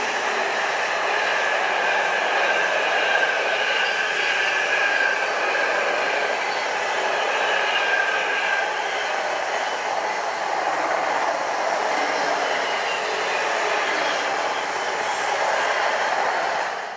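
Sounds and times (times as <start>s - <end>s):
train wheels rushing on rail: 0.0s - 16.9s.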